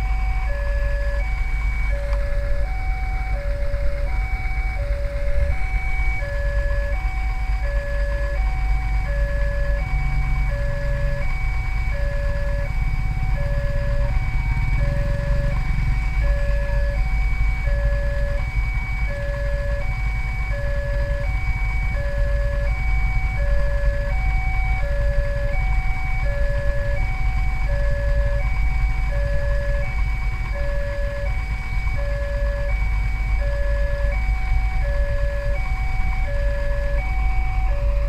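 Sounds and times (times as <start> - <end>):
low traffic rumble: 0.0 - 38.0.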